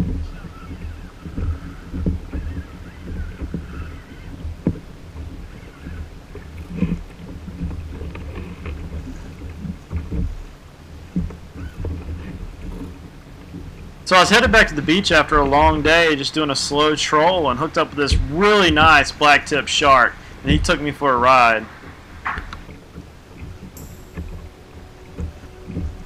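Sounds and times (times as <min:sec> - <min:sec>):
kayak hull slapping water: 0:00.0 - 0:26.0
wind buffeting microphone: 0:00.0 - 0:26.0.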